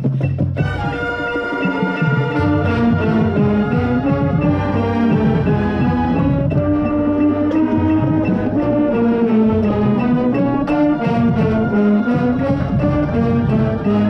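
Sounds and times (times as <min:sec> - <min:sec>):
marching band playing: 0:00.0 - 0:14.0
tenor saxophone melody: 0:00.6 - 0:14.0.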